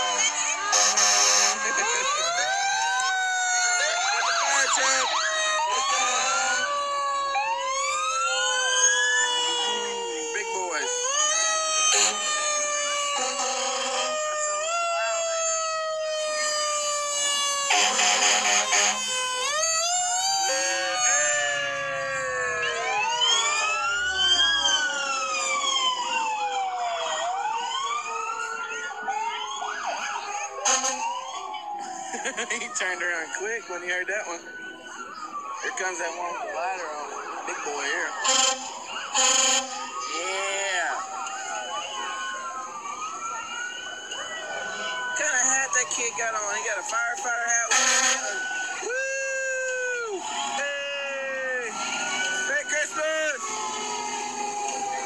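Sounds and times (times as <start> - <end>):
fire truck sirens: 0.0 - 55.0.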